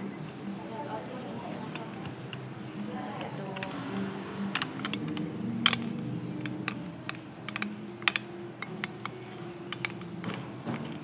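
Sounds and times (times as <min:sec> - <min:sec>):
utensils tapping dishes: 0:01.7 - 0:11.0.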